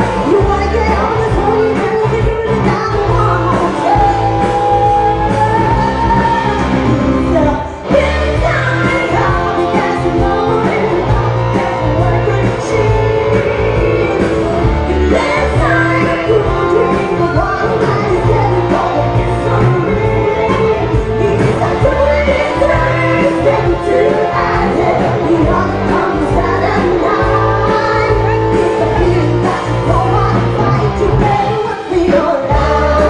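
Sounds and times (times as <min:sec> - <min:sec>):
live rock band playing: 0:00.0 - 0:33.0
woman singing lead: 0:00.0 - 0:33.0.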